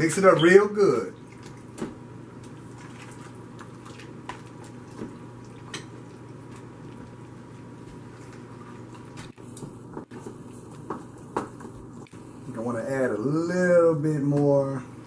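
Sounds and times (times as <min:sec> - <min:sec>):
wet mix stirred in plastic bowl: 0:01.2 - 0:13.3.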